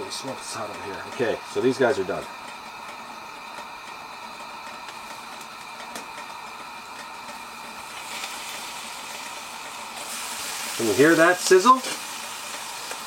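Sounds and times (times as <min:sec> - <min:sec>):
food sizzling on a stove: 0:00.0 - 0:13.0.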